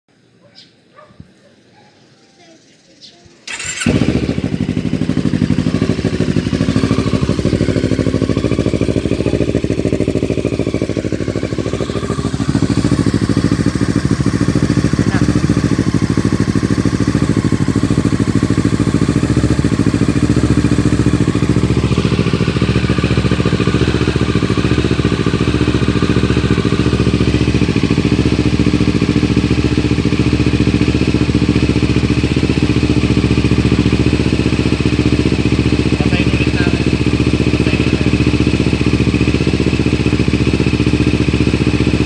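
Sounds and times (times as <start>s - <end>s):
motorcycle engine idling: 3.5s - 42.0s.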